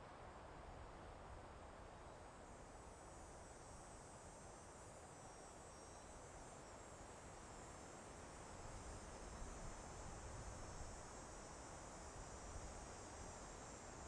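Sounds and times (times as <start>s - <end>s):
soft wind in a forest: 0.0s - 14.0s.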